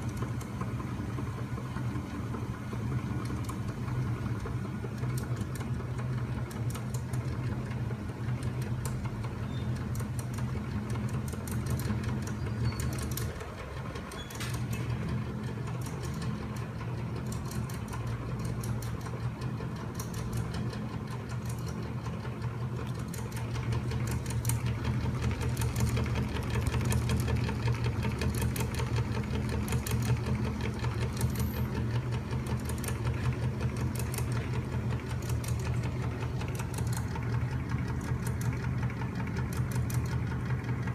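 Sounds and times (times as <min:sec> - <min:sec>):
fast mechanical clatter: 0:00.0 - 0:40.9
machine low hum: 0:00.0 - 0:40.9.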